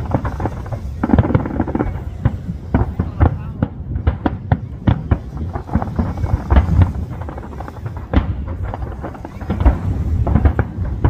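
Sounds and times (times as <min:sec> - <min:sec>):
deep firework booms: 0:00.0 - 0:11.0
sharp firework cracks: 0:00.0 - 0:11.0.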